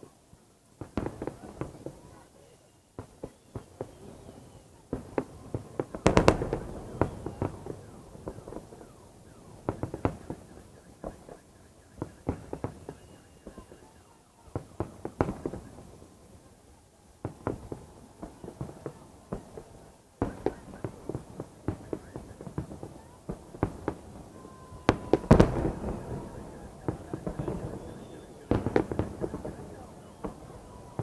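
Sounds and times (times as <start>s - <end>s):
fireworks bangs and cracks: 0.8s - 2.3s, 3.0s - 16.4s, 17.2s - 31.0s.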